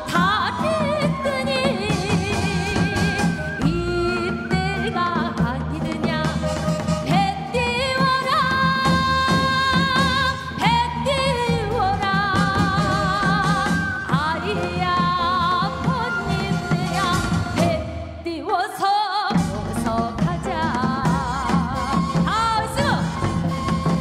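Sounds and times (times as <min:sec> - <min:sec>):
instrumental accompaniment: 0:00.0 - 0:18.2, 0:19.3 - 0:24.0.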